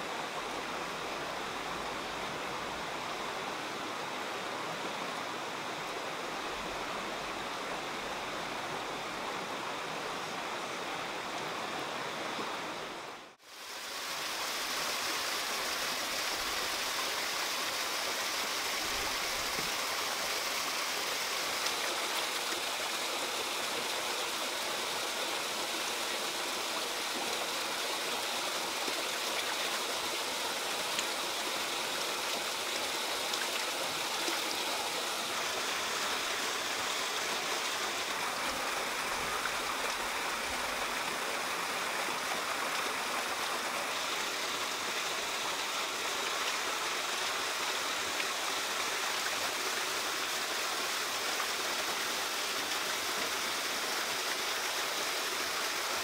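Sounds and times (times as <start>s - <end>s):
forest stream flowing: 0.0s - 56.0s.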